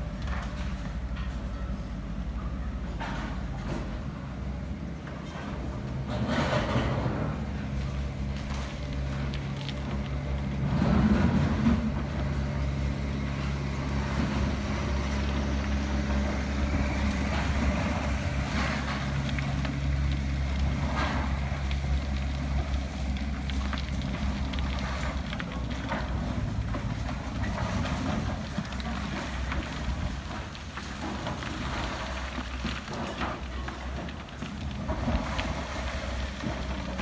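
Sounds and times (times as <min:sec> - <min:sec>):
excavator diesel engines running: 0:00.0 - 0:37.0
concrete crunching and clattering: 0:05.2 - 0:37.0.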